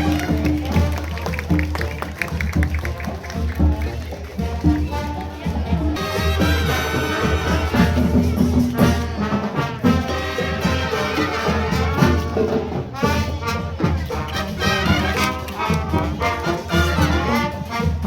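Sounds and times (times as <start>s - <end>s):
marching brass band playing: 0.0s - 18.0s.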